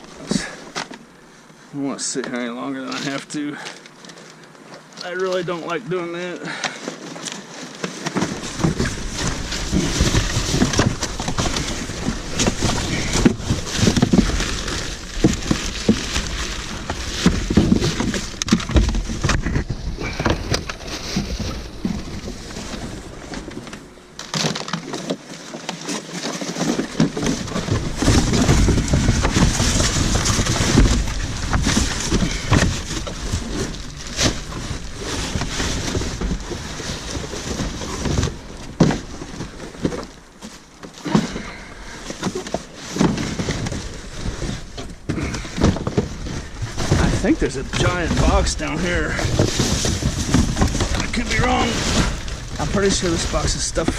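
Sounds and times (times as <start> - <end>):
cardboard and trash crunching in dumpster: 0.0 - 1.2, 1.8 - 4.1, 4.9 - 53.9.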